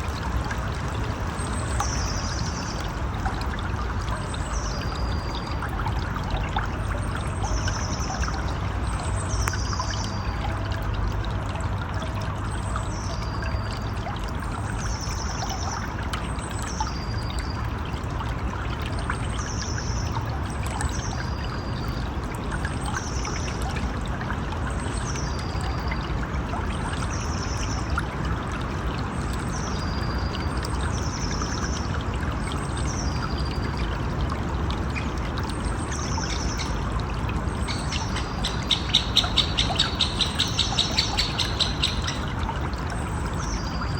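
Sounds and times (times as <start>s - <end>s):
rushing stream: 0.0s - 43.9s.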